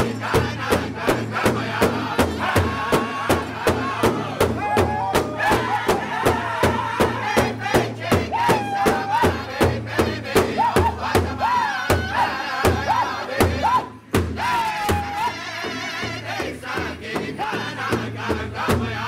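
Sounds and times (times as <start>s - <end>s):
large drum beating: 0.0s - 19.0s
men singing high phrases: 0.0s - 19.0s.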